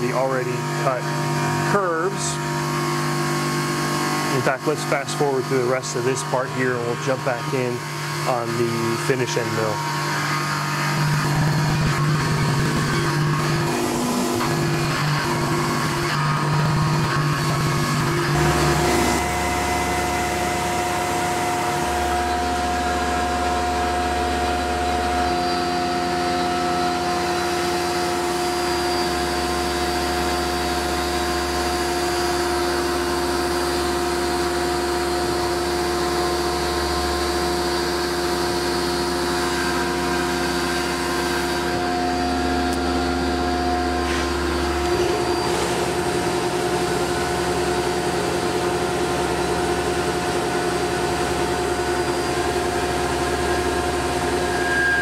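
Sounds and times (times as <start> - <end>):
mill machining hum with whine: 0.0 - 55.0.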